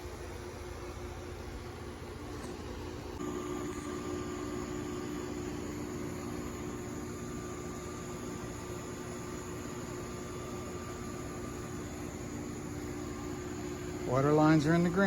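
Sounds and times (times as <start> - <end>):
mechanical hum: 0.0 - 15.0
faint high whine: 2.4 - 15.0.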